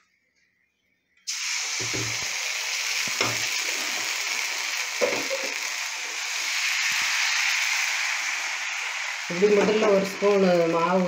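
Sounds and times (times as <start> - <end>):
batter sizzling in a pan: 1.3 - 11.0.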